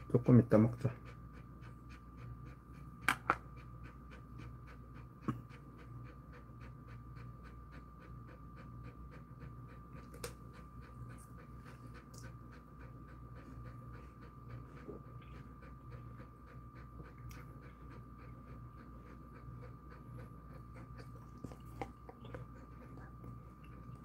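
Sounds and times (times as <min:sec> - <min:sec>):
dog panting: 0:00.0 - 0:24.0
faint steady hum: 0:00.0 - 0:24.0.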